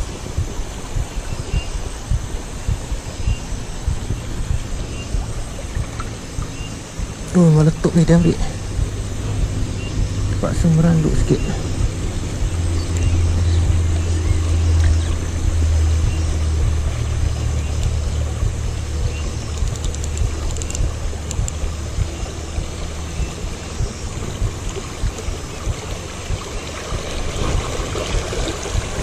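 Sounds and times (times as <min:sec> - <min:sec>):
low rumble: 0:00.0 - 0:29.0
stream water rushing: 0:00.0 - 0:29.0.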